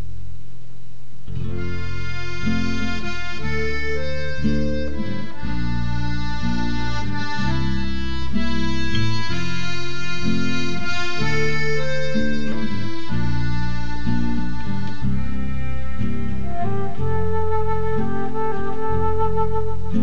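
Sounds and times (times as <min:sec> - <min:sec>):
instrumental background music: 0:01.4 - 0:20.0.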